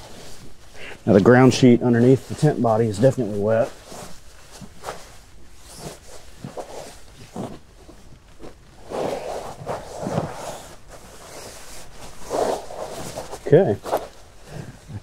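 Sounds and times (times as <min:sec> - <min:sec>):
towel rubbing on nylon tent floor: 0:00.0 - 0:14.6
rain suit swishing: 0:00.0 - 0:15.0.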